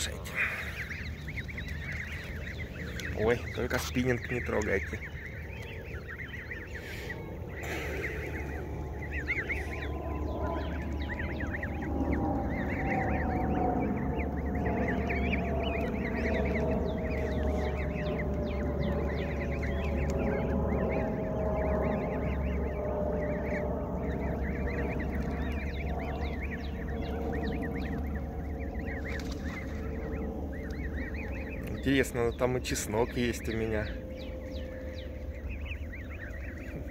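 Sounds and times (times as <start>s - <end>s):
goslings peeping: 0.0s - 36.9s
low drone falling in pitch: 0.0s - 36.9s.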